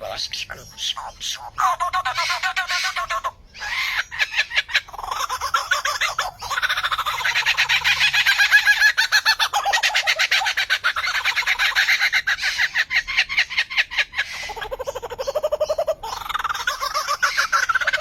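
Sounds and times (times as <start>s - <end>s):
bird clucking call: 0.0s - 18.0s.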